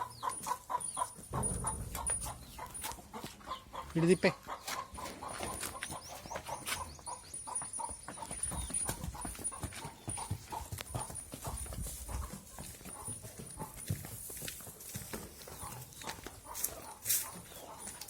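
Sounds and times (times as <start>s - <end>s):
hooves clopping on hard ground: 0.0s - 18.0s.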